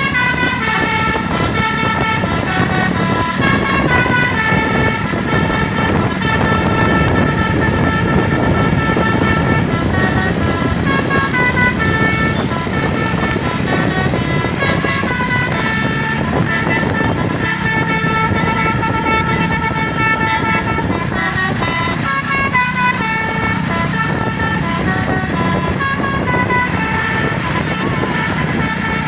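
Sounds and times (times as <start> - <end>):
bus engine running: 0.0 - 29.0
musical bus horn playing a tune: 0.0 - 29.0.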